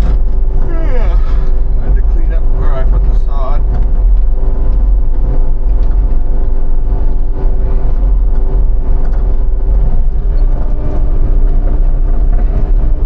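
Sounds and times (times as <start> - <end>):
engine running loudly: 0.0 - 13.0.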